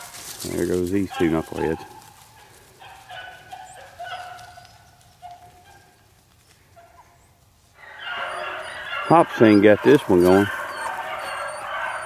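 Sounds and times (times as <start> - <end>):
distant dogs baying: 0.5 - 12.0.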